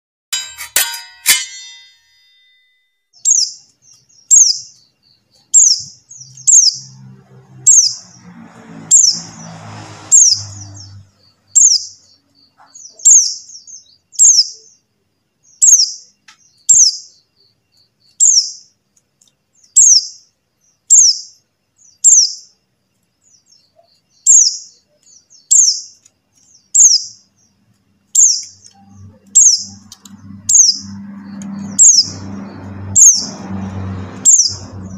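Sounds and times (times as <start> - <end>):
bird high downward chirps: 0.4 - 18.8, 19.6 - 22.6, 23.2 - 34.9.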